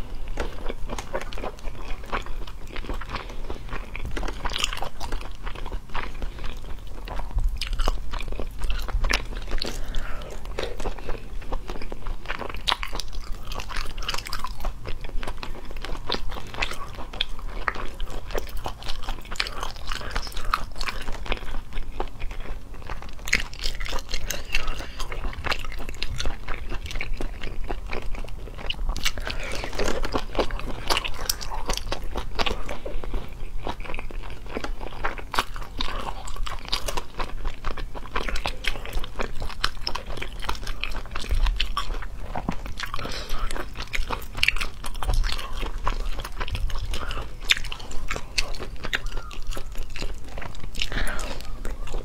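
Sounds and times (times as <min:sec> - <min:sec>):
person chewing wetly: 0:00.0 - 0:52.0.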